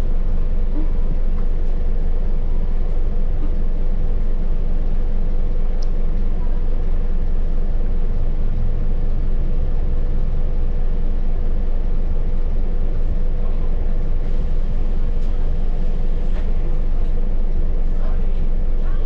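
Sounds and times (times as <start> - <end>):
bus diesel engine drone: 0.0 - 19.0
steady engine whine: 0.0 - 19.0.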